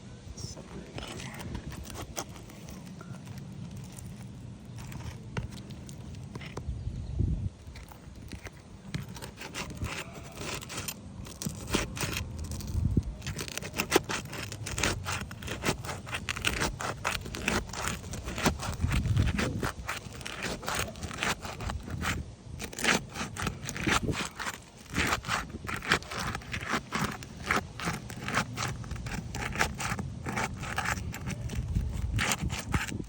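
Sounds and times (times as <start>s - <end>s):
roof shingles being scraped loose: 1.0s - 6.6s, 7.7s - 33.0s.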